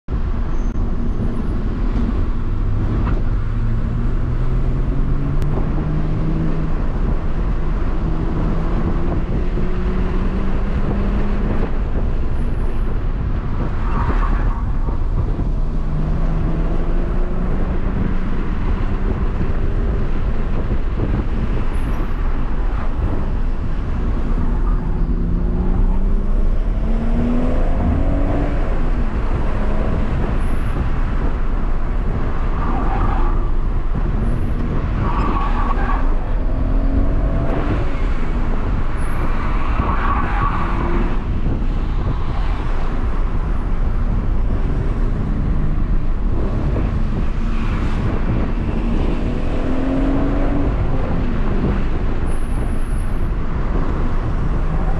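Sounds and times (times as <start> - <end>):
road and tyre noise: 0.0 - 54.9
car engine revving: 0.8 - 54.9.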